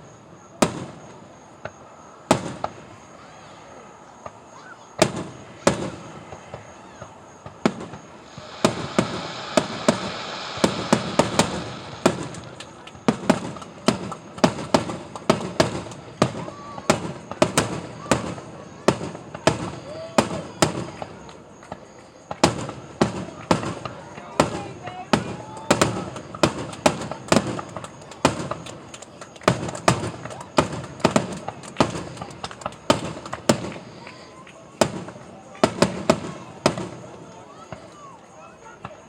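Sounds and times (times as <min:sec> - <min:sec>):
fireworks crackle: 0:00.0 - 0:39.0
fireworks bangs: 0:00.6 - 0:38.0.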